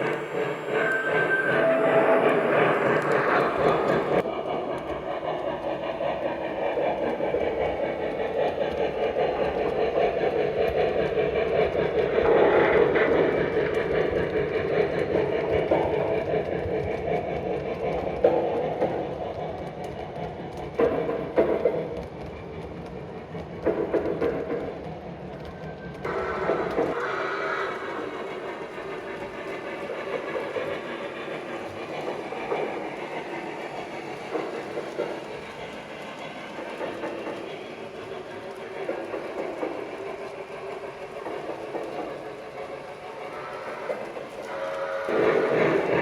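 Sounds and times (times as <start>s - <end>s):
model train steam sound effects: 0.0s - 19.2s, 26.1s - 46.0s
wheels clicking on rail joints: 0.0s - 46.0s.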